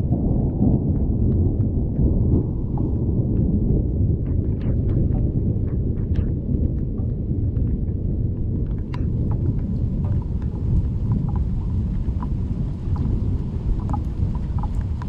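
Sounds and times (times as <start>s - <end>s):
low rumble of thunder: 0.0s - 15.0s
rain: 0.0s - 15.0s
raindrops dripping and ticking: 0.0s - 15.0s.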